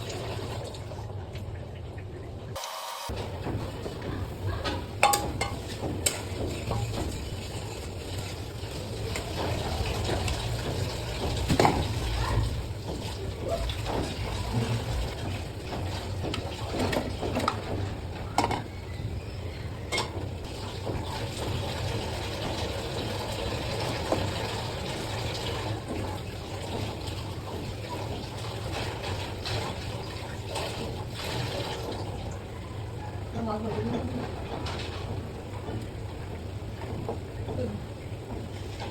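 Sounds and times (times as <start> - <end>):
water running and splashing: 3.2 - 18.4, 20.2 - 38.9.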